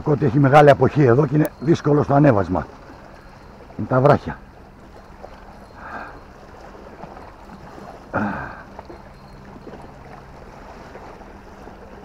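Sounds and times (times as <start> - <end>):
seawater splashing against rocks: 0.0 - 12.0.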